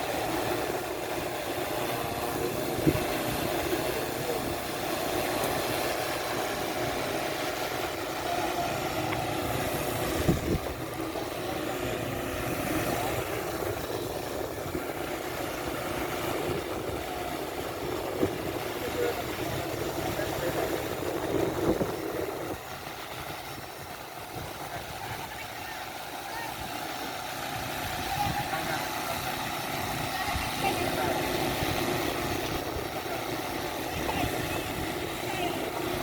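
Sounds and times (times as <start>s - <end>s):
drone propellers buzzing: 0.0s - 36.0s.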